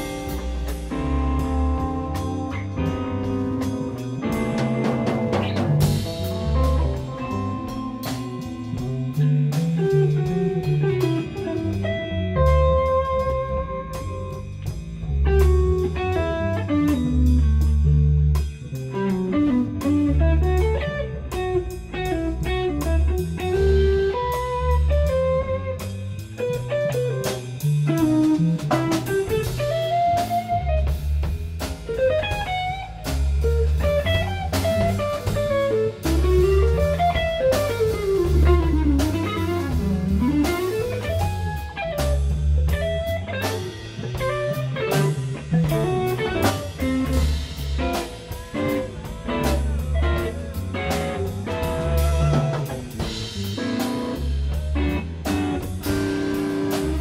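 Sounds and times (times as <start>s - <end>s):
deep bass notes: 0.0s - 57.0s
drum and cymbal hits: 0.0s - 57.0s
electric guitar with slides: 0.0s - 57.0s.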